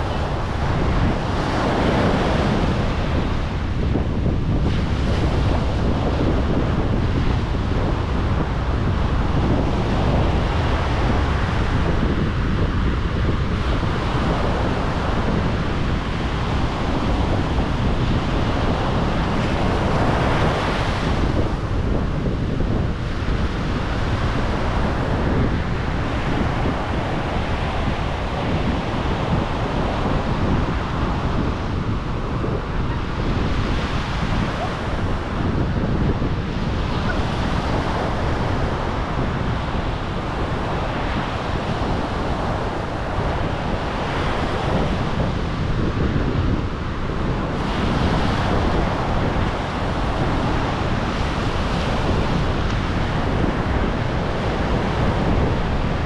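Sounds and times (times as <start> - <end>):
waves breaking and washing in: 0.0 - 56.0
wind rumble on microphone: 0.0 - 56.0.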